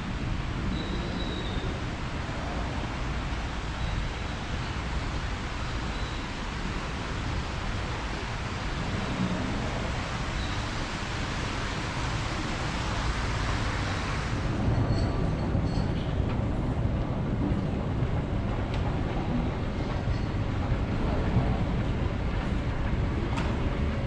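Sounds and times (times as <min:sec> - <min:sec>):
vehicle running noise: 0:00.0 - 0:24.0.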